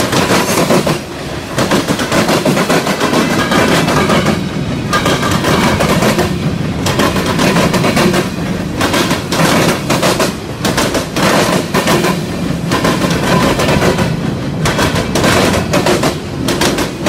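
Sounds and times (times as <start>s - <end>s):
freight train wheels clattering: 0.0s - 17.0s.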